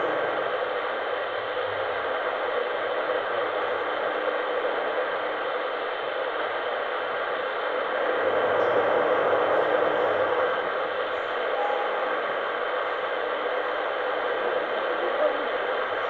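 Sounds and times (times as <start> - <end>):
shortwave radio noise: 0.0 - 16.0.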